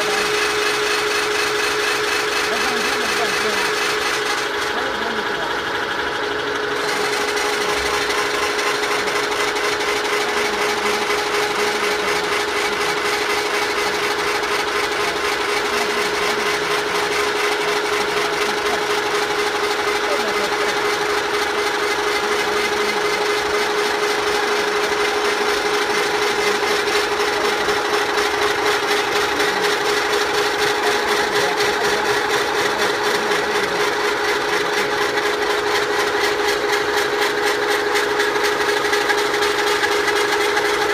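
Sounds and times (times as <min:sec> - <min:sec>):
drilling rig humming and grinding: 0:00.0 - 0:40.9.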